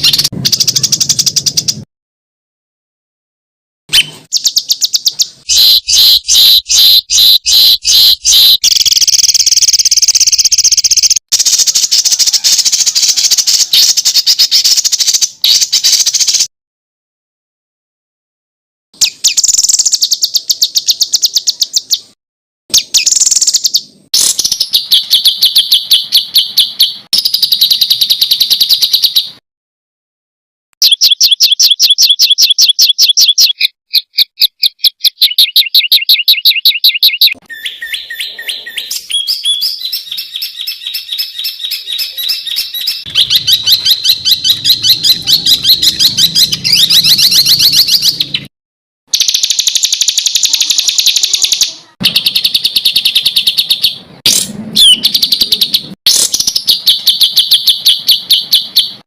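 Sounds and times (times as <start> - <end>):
songbird song: 0.0 - 1.9, 3.9 - 16.5, 19.0 - 29.4, 30.8 - 48.5, 49.2 - 59.0.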